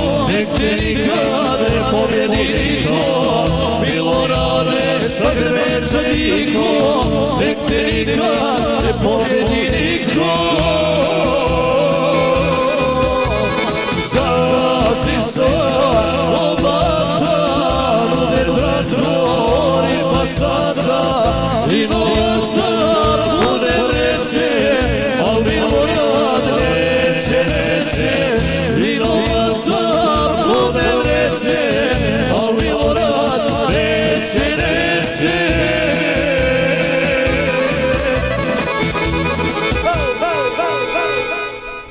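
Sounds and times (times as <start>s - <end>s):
folk band with accordion: 0.0s - 41.9s.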